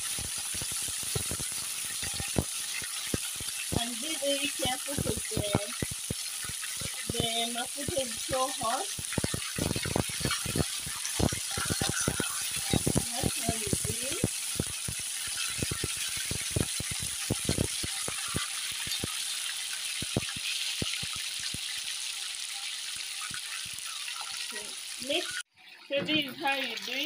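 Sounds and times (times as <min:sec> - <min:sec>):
fish deep-frying in hot oil: 0:00.0 - 0:27.0.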